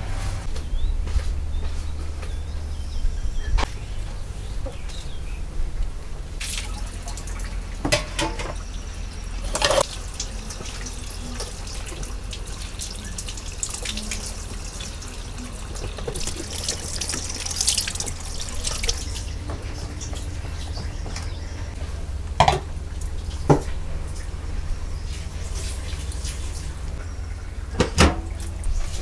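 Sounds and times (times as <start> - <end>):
water dripping and splashing: 5.8 - 29.0.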